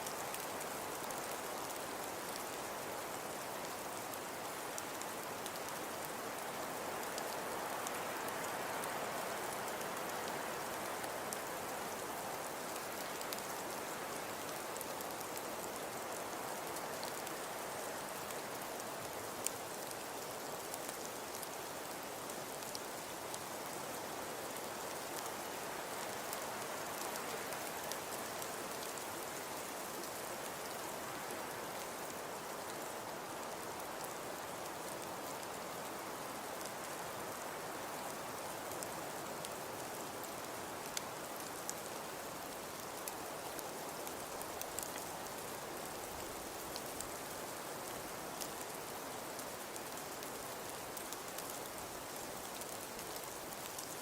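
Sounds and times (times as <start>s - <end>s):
hiss of falling snow: 0.0s - 54.0s.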